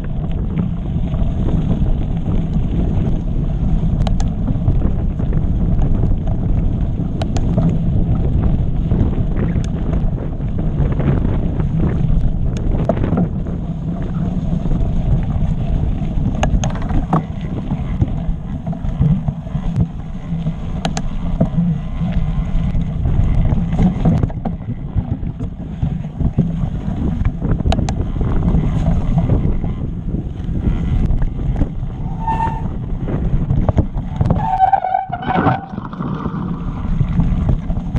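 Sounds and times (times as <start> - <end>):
bike clicks and rattles: 0.0 - 37.9
bike tyres rolling over rocks: 0.0 - 37.9
wind buffeting microphone: 0.0 - 37.9.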